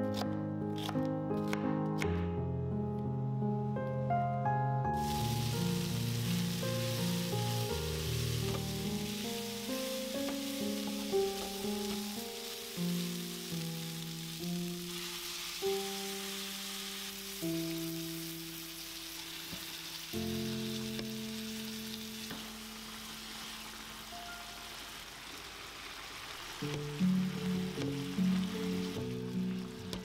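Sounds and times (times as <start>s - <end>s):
soft background music: 0.0s - 25.3s, 26.4s - 30.0s
food sizzling in a frying pan: 5.0s - 30.0s.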